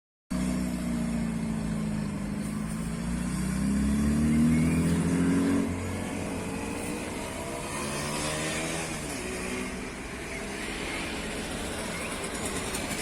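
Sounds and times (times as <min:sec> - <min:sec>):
car engine revving: 0:01.2 - 0:13.0.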